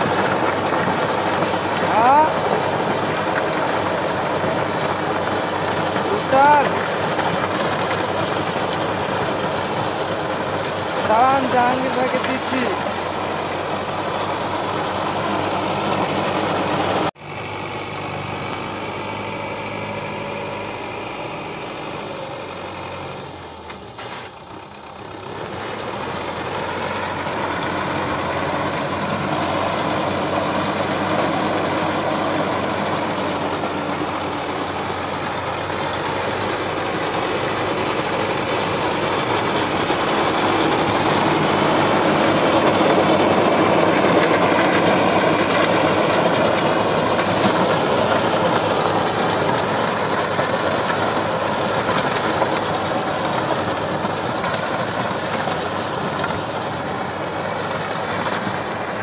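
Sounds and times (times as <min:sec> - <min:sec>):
tiller churning soil: 0:00.0 - 0:59.0
tractor diesel engine running: 0:00.0 - 0:59.0.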